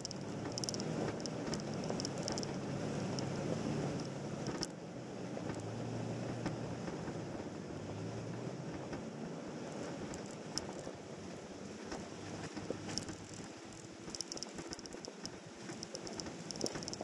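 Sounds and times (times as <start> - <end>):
vehicle engine running low: 0.0 - 17.0.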